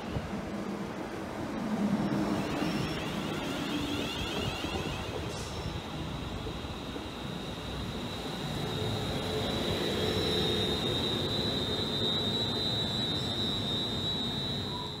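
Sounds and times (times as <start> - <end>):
electric train rumble: 0.0 - 15.0
high-pitched train whine: 0.0 - 15.0.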